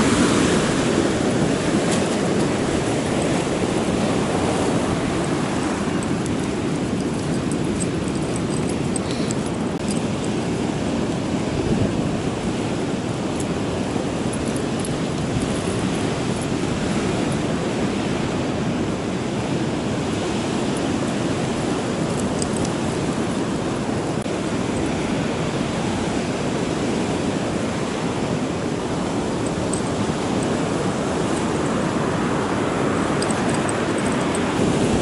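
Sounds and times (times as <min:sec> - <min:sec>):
ocean surf breaking: 0:00.0 - 0:35.0
wind: 0:00.0 - 0:35.0.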